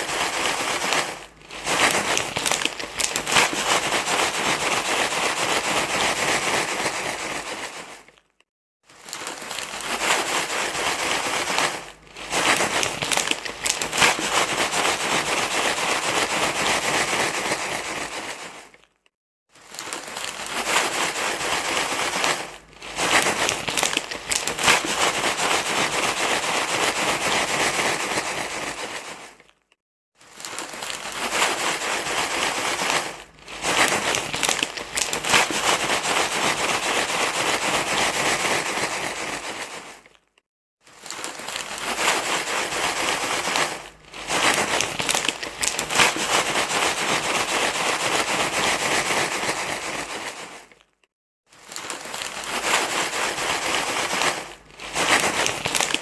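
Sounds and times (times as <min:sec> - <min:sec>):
crinkling crumpling rustle: 0:00.0 - 0:56.0.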